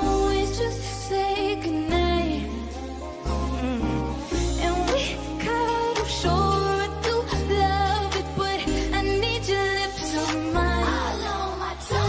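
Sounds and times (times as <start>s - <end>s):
bass line: 0.0s - 12.0s
woman singing: 0.0s - 12.0s.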